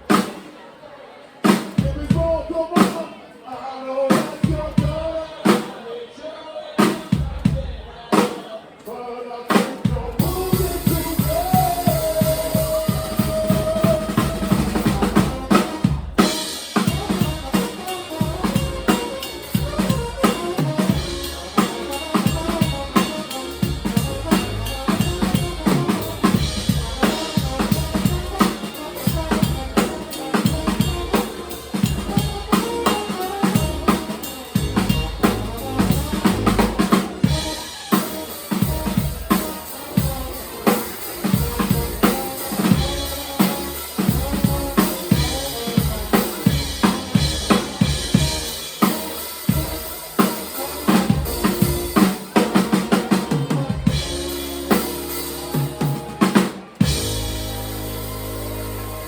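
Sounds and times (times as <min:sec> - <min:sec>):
drum kit beat: 0:00.0 - 0:00.5, 0:01.5 - 0:03.2, 0:04.1 - 0:05.8, 0:06.8 - 0:08.4, 0:09.5 - 0:59.0
live band music: 0:00.0 - 0:00.6, 0:01.5 - 0:03.2, 0:04.1 - 0:05.8, 0:06.8 - 0:08.4, 0:09.5 - 0:59.0.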